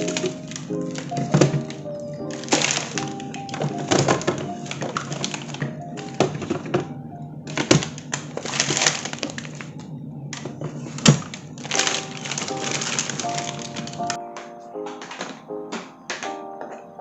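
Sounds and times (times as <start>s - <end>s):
hissy rustling: 0.0s - 16.0s
soft background music: 0.0s - 17.0s.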